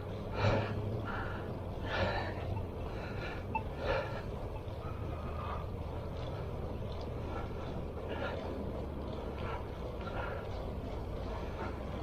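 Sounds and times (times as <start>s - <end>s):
cyclist breathing hard: 0.0s - 12.0s
low steady rumble: 0.0s - 12.0s.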